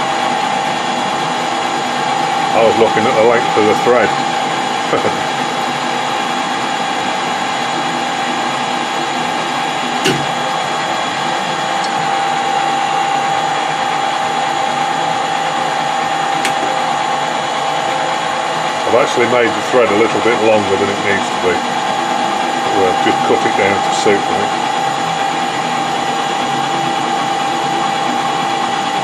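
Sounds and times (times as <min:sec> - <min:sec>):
metal lathe whine: 0:00.0 - 0:29.0.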